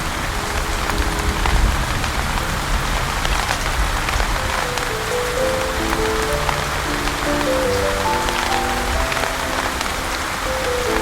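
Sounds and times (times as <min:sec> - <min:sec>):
slow soft melody: 0:00.0 - 0:11.0
steady rain: 0:00.0 - 0:11.0.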